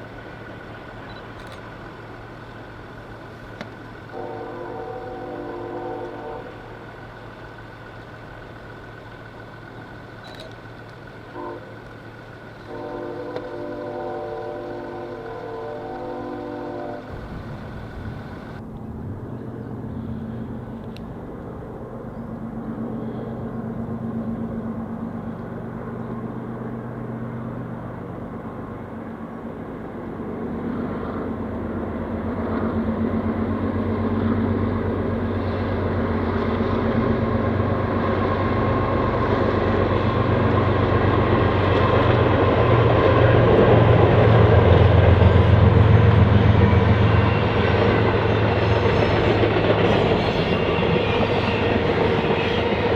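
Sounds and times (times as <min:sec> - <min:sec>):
diesel locomotive engine drone: 0:00.0 - 0:52.9.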